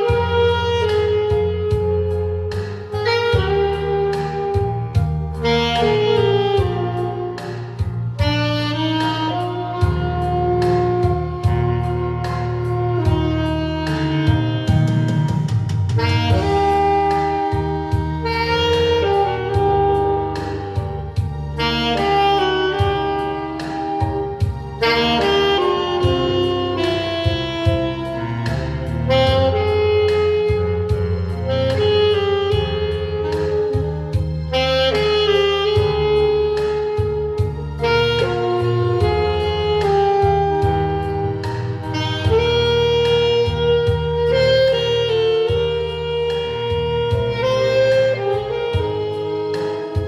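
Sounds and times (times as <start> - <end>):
jazz band with bass and drums: 0.0 - 50.0
saxophone melody: 0.0 - 50.0.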